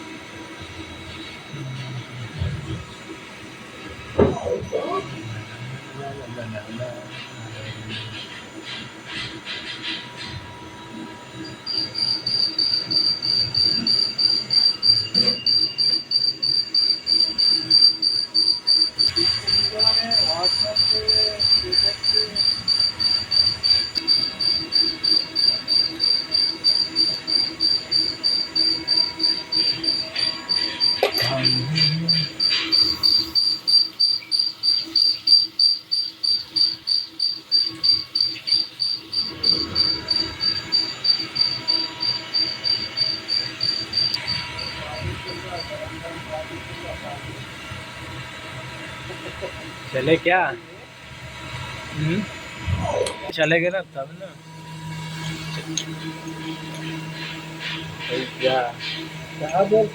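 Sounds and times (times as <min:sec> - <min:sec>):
rapid electronic beeping: 0:04.2 - 0:50.6, 0:51.2 - 0:59.9.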